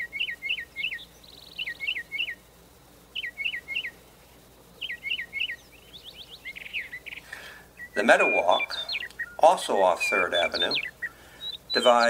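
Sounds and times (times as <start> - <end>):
songbird sharp call notes: 0.0 - 2.5, 3.2 - 4.0, 4.8 - 12.0
buzzy bird trill: 0.0 - 12.0.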